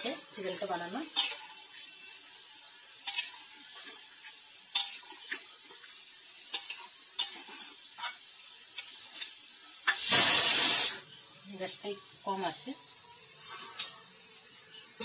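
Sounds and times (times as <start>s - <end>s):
gravy sizzling: 0.0s - 15.0s.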